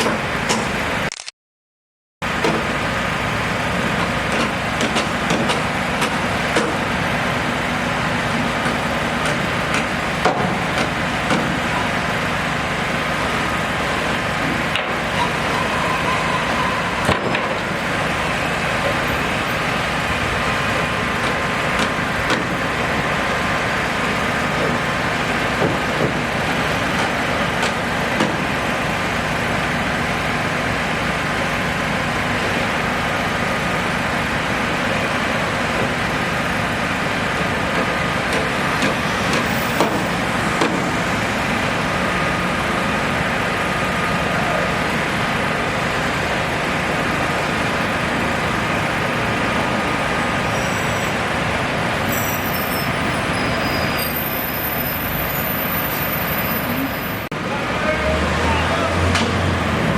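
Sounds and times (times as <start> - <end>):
vehicle engine rumble: 2.2 - 59.9.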